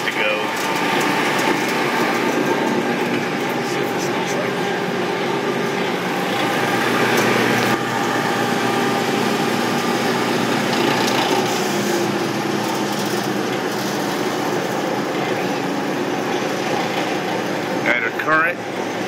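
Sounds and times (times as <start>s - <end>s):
boiler humming: 0.0s - 19.0s
water pump running: 0.0s - 19.0s
blower tone: 0.4s - 17.9s.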